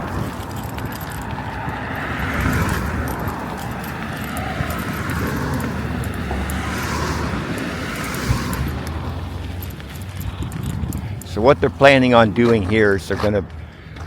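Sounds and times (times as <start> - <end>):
cars passing on road: 0.0 - 14.0.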